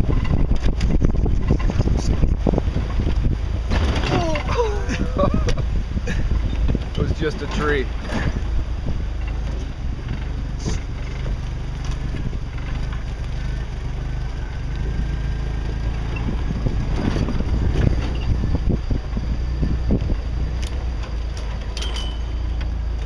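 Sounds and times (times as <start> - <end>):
car engine running: 0.0 - 23.0
knocks and rattles: 0.0 - 23.0.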